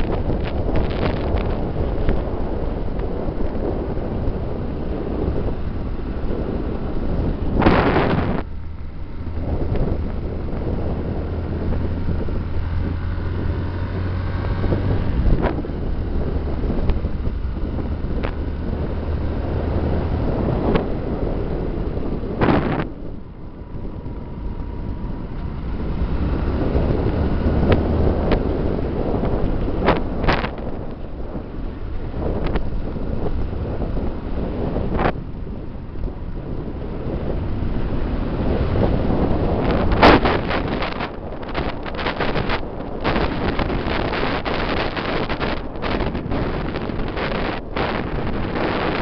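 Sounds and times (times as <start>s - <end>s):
motorcycle engine drone: 0.0s - 49.0s
wind buffeting microphone: 0.0s - 49.0s.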